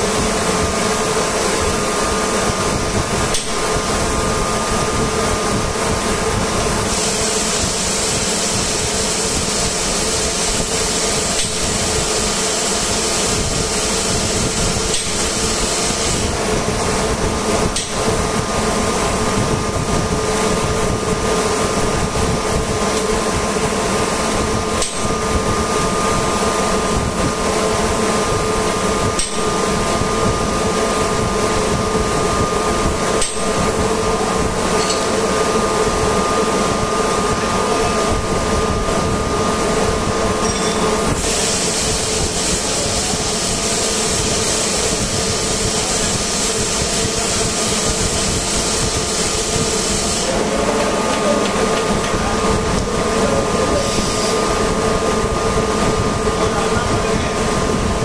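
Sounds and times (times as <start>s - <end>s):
machinery hum: 0.0s - 58.0s.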